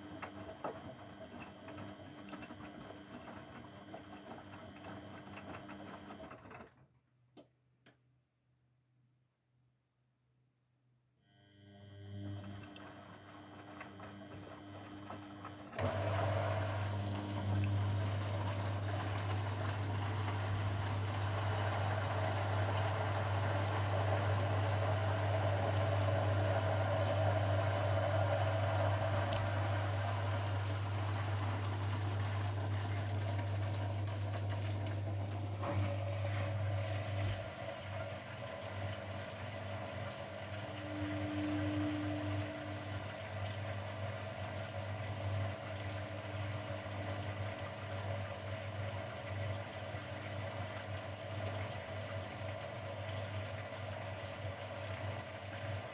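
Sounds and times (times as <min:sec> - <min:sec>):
drain pump humming: 0:00.0 - 0:06.4, 0:11.7 - 0:55.9.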